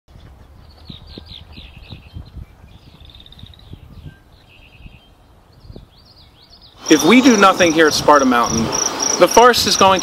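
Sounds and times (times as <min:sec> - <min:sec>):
songbirds singing: 0:00.1 - 0:10.0.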